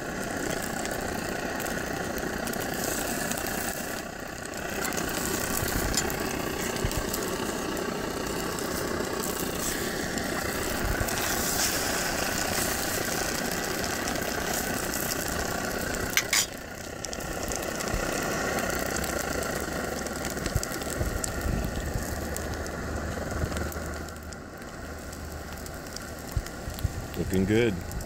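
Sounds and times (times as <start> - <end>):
stove burning with rushing noise: 0.0 - 28.0.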